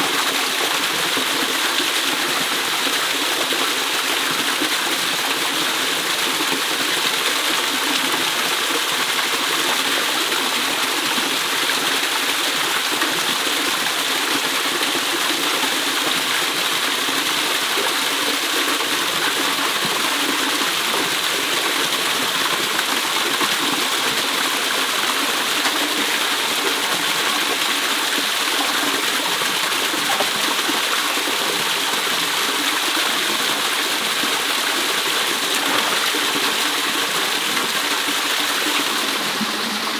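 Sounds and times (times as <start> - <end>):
waterfall splashing into pool: 0.0 - 39.9.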